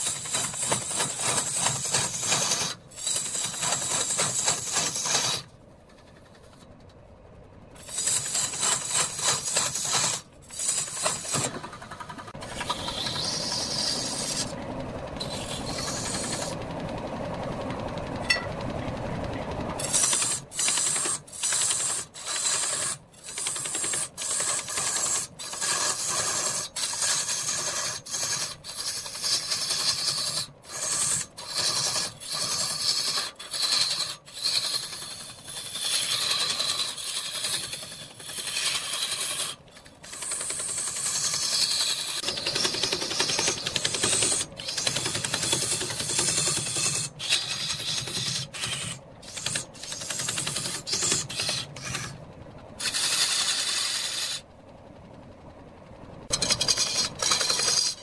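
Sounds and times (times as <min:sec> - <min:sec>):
lathe tool scraping wood: 0:00.0 - 0:05.5, 0:07.8 - 0:16.6, 0:19.8 - 0:52.2, 0:52.8 - 0:54.4, 0:56.3 - 0:58.0.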